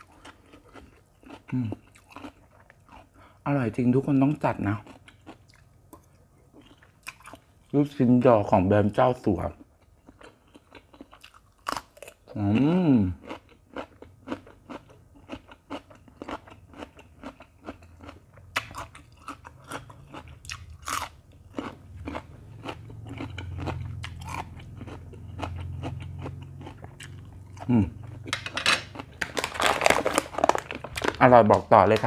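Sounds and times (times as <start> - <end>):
person chewing crisp cucumber: 0.0 - 3.4, 4.2 - 7.8, 9.3 - 31.2.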